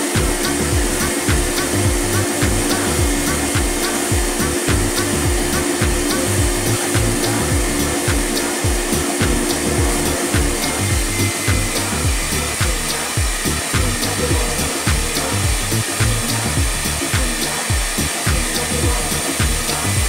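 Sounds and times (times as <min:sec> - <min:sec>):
background music with beat: 0:00.0 - 0:20.0
vacuum motor rushing: 0:00.0 - 0:20.0.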